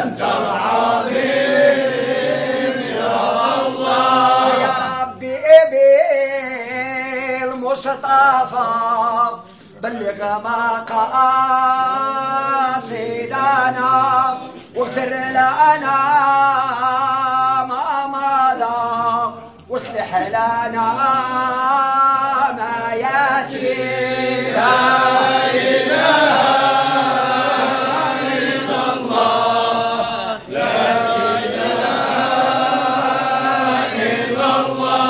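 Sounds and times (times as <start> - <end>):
men chanting devotional song: 0.0 - 35.0.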